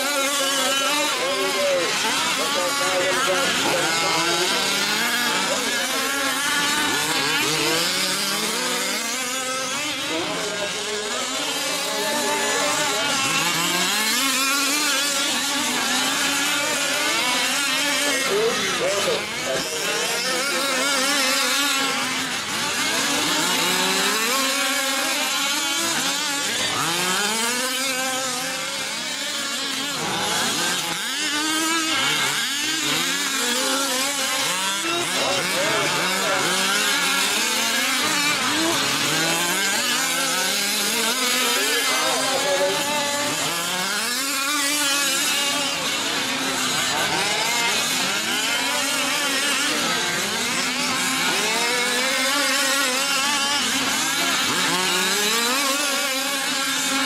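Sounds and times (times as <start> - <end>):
two-stroke rc truck engines revving: 0.0 - 57.0.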